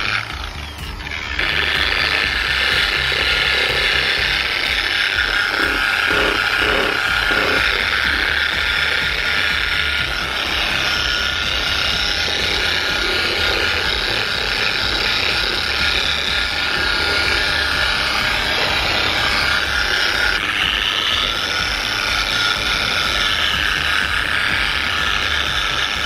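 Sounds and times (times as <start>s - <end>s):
polishing machine motor whirring: 0.0s - 26.0s.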